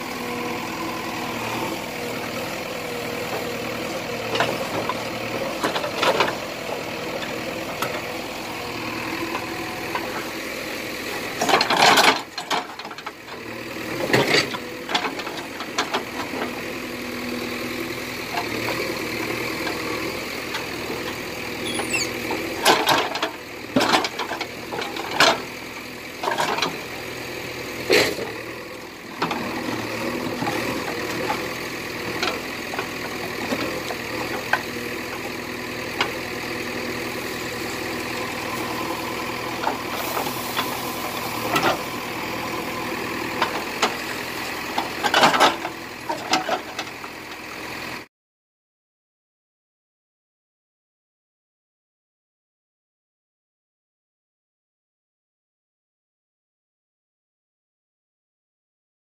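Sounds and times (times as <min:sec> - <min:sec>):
diesel engine running: 0:00.0 - 0:48.1.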